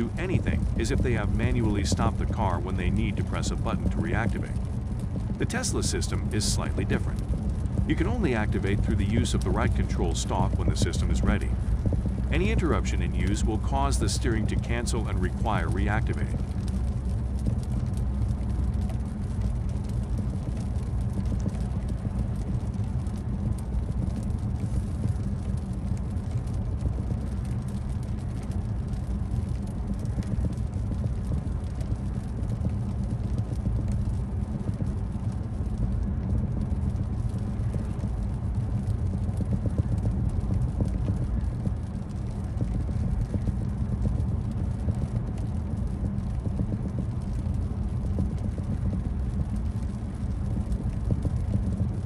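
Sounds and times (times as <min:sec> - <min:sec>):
road and tyre rumble in car: 0:00.0 - 0:52.0.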